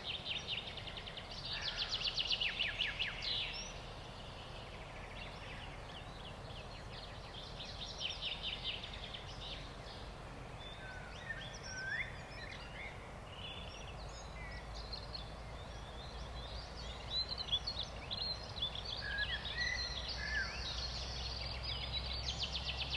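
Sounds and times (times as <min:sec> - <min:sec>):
background hiss: 0:00.0 - 0:22.9
songbirds chirping and singing: 0:00.0 - 0:22.9.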